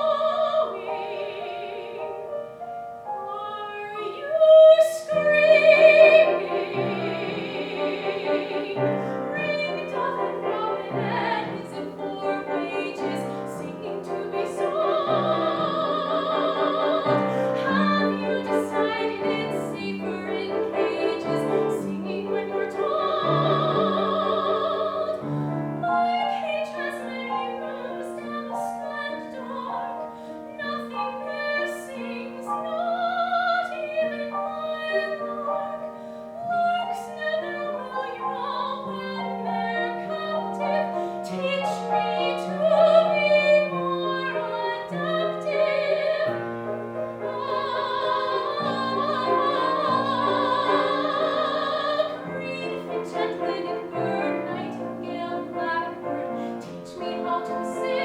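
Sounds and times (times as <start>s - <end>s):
woman singing operatically: 0.0s - 2.3s, 3.2s - 35.8s, 36.4s - 46.4s, 47.2s - 58.0s
piano accompaniment: 0.0s - 58.0s.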